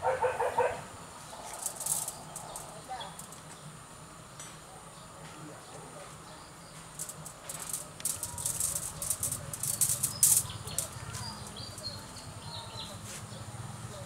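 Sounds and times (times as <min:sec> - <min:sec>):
rustling of branches and leaves: 0:01.0 - 0:03.9, 0:05.1 - 0:13.5.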